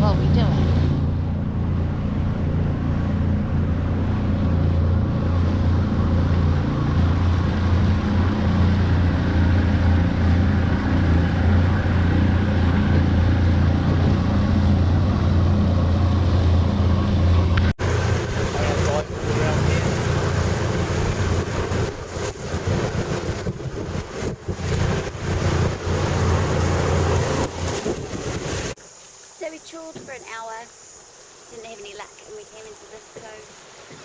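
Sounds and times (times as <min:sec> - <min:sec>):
boat motor running: 0:00.0 - 0:30.4.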